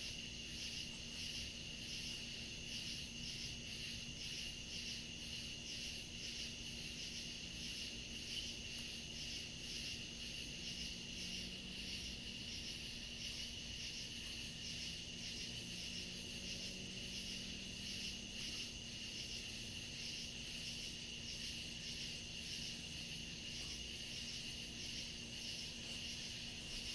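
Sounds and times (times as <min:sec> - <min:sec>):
crickets chirping: 0:00.0 - 0:26.9.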